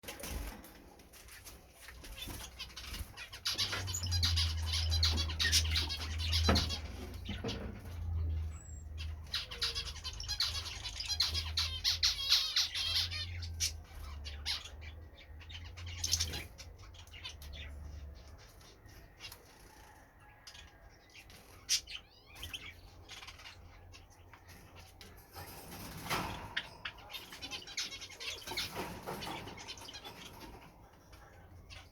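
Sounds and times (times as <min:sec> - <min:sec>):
finches chirping and twittering: 0:00.2 - 0:31.9.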